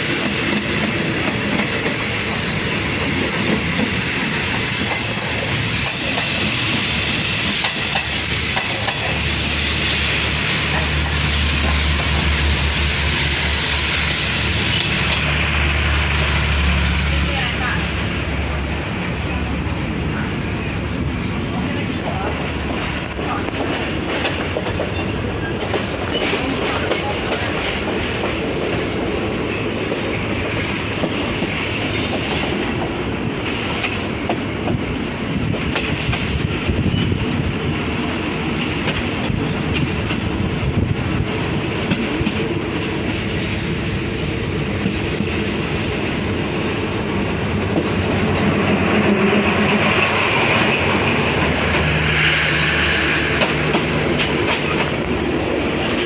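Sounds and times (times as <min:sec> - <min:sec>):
train wheels clattering on rails: 0:00.0 - 0:16.9, 0:21.0 - 0:56.0.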